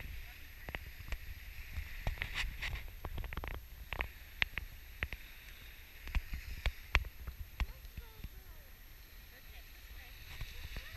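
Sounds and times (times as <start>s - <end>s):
low wind rumble on microphone: 0.0s - 10.9s.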